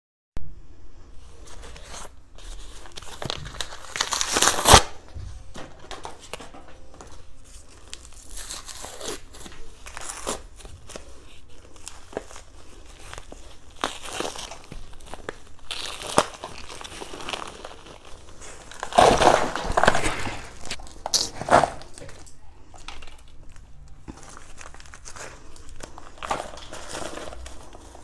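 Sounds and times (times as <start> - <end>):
cardboard tearing and crinkling: 1.3 - 28.0.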